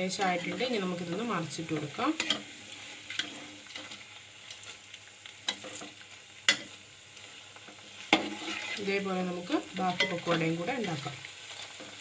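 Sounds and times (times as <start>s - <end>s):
fritters sizzling in hot oil: 0.0s - 12.0s.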